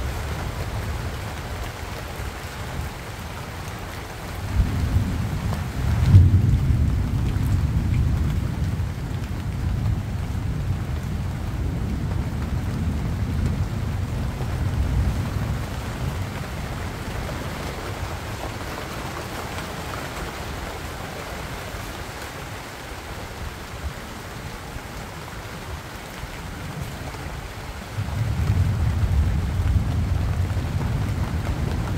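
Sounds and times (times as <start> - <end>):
rain on leaves: 0.0 - 31.9.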